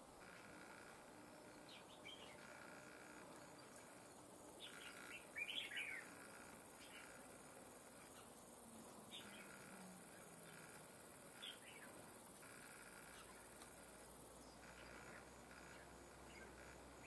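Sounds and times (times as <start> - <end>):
bird chirping calls: 0.3 - 17.0.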